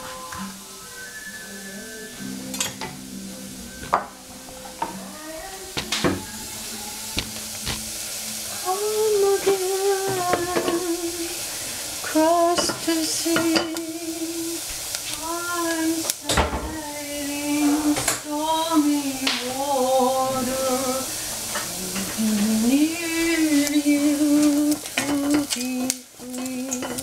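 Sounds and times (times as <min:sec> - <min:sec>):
music: 0:00.0 - 0:27.0
peppers sizzling in a saucepan: 0:00.0 - 0:27.0.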